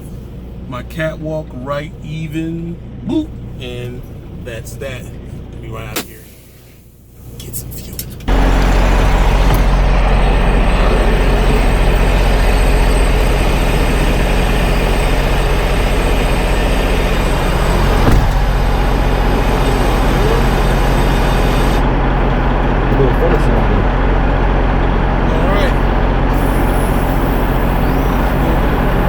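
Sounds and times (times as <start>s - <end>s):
diesel truck engine droning: 0.0s - 29.0s.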